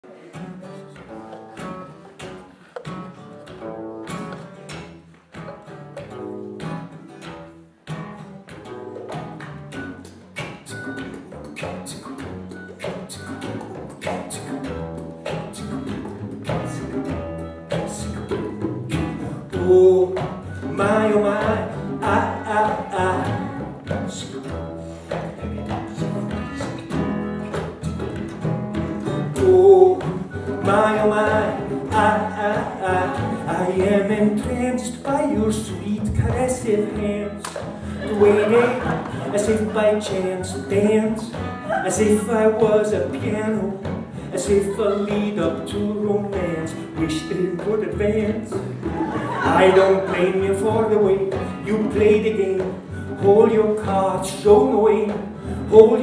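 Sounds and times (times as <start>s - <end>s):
acoustic guitar strumming: 0.0s - 56.0s
double bass line: 0.0s - 56.0s
hand drum: 0.0s - 56.0s.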